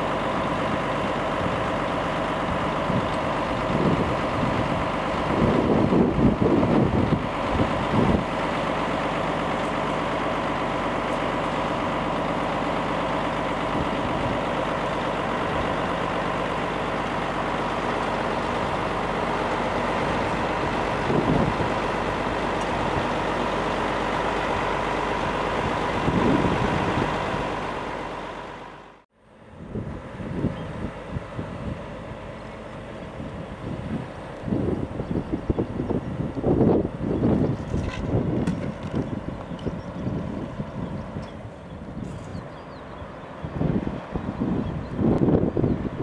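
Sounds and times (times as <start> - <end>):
diesel engine running: 0.0 - 46.0
hydraulic whine: 0.0 - 46.0.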